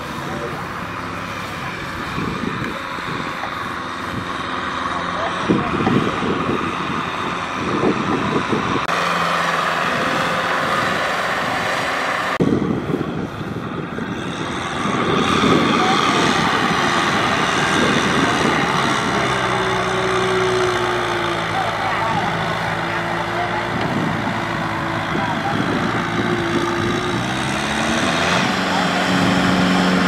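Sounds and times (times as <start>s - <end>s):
tractor engines running: 0.0s - 30.0s.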